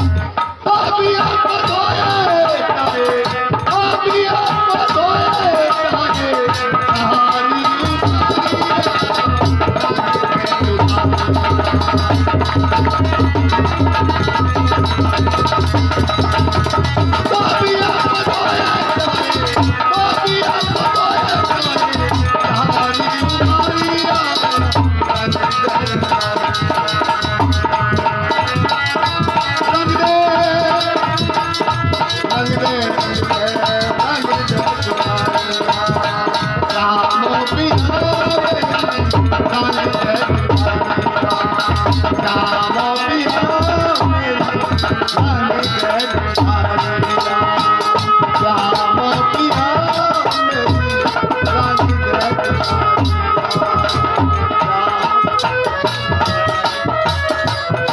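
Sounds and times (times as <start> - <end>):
hand drum rhythm: 0.0 - 57.9.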